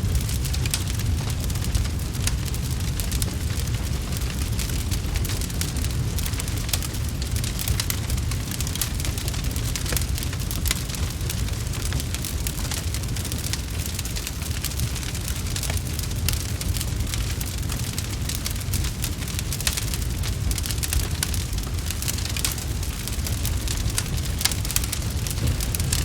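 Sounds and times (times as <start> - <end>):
fireplace fire snapping and popping: 0.0 - 26.0
low rumble of fire: 0.0 - 26.0.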